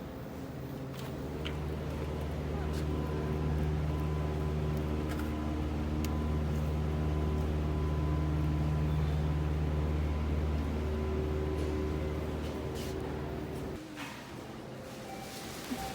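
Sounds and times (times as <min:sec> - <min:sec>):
faint constant whine: 0:00.0 - 0:15.9
low mechanical hum: 0:00.0 - 0:15.9.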